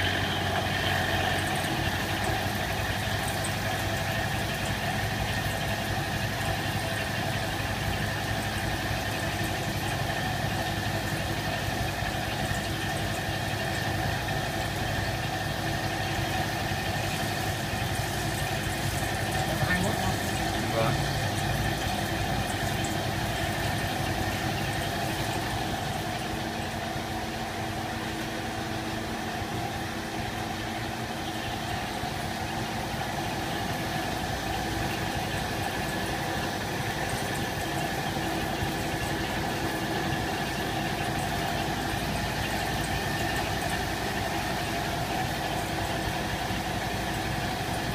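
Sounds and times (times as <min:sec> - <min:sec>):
machine humming with steady tones: 0:00.0 - 0:47.9.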